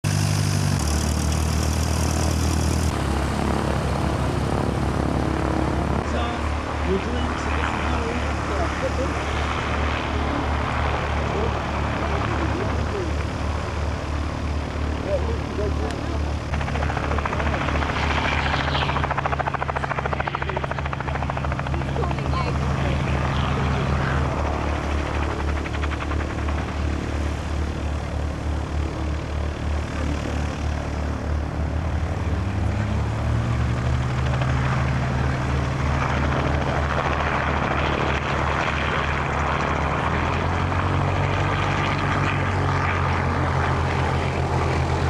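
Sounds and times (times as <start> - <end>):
helicopter engine and rotor drone: 0.0 - 45.0.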